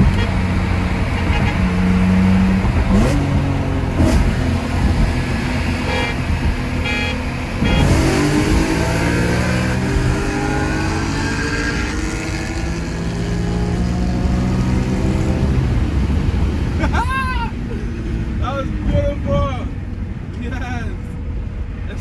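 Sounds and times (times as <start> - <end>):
car engine accelerating: 0.0 - 21.6.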